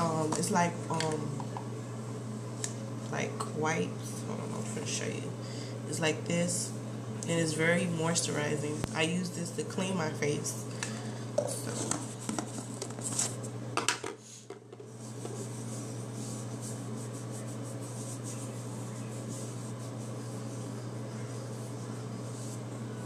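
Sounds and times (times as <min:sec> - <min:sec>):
low hum with hiss: 0:00.0 - 0:23.0.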